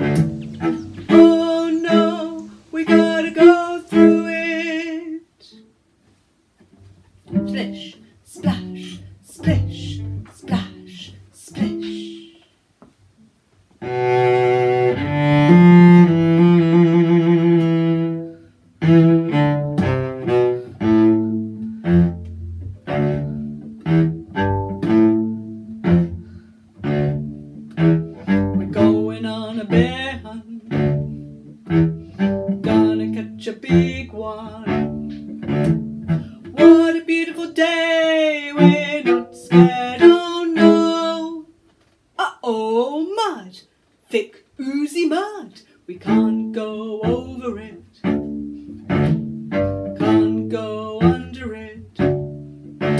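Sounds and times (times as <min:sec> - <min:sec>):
bowed string instrument playing: 0:00.0 - 0:05.2, 0:06.7 - 0:12.2, 0:13.8 - 0:41.4, 0:45.9 - 0:52.9.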